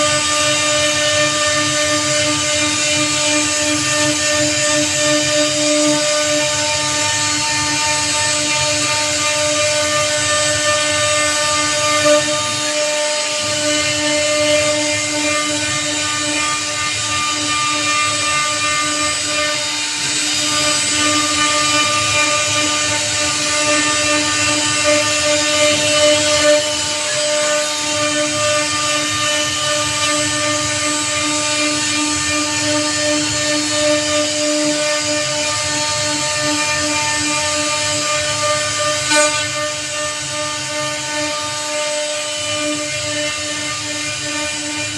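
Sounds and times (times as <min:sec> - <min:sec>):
router spindle high whine: 0:00.0 - 0:44.9.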